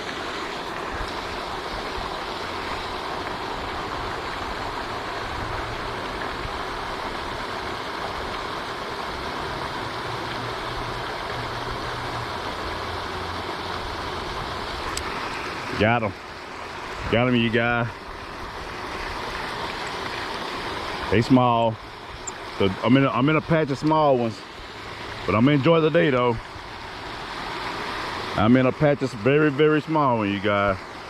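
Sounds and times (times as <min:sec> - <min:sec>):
fountain splashing: 0:00.0 - 0:31.0.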